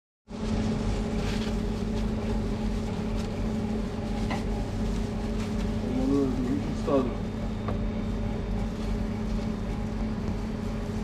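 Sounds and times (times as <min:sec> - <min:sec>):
bread rustling on paper: 0:00.3 - 0:07.3, 0:08.0 - 0:11.0
machine hum: 0:00.3 - 0:11.0.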